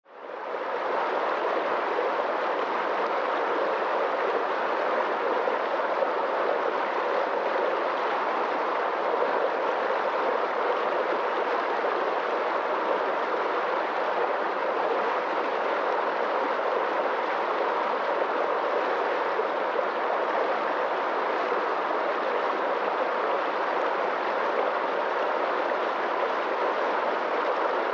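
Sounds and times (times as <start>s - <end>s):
stream rushing over stones: 0.4s - 27.9s.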